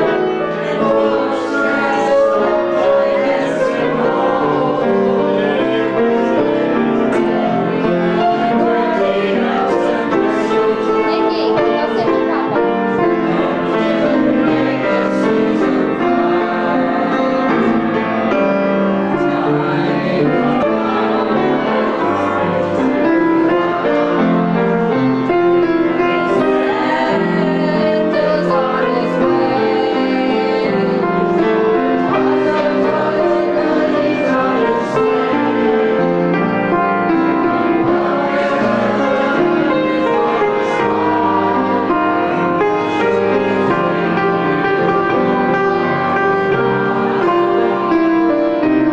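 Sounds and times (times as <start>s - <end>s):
piano playing a carol: 0.0s - 48.9s.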